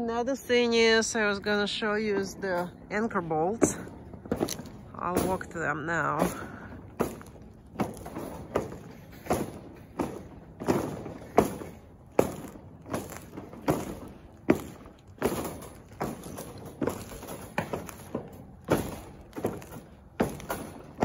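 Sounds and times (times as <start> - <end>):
footsteps walking: 2.1 - 21.0.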